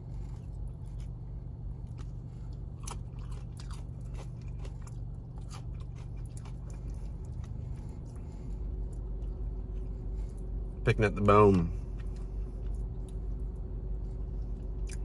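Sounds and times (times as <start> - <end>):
person chewing crunchy food: 0.0 - 10.8, 11.5 - 15.0
steady low hum: 0.0 - 15.0.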